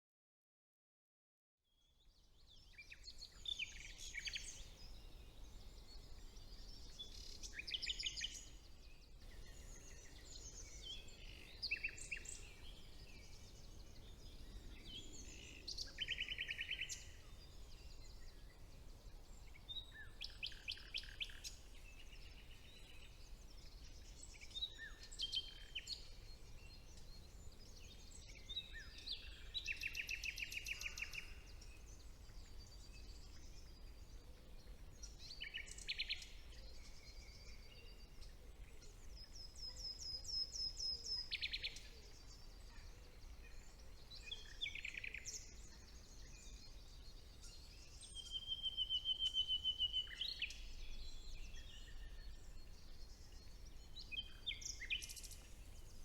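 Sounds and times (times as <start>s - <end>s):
songbirds singing: 1.8s - 56.0s.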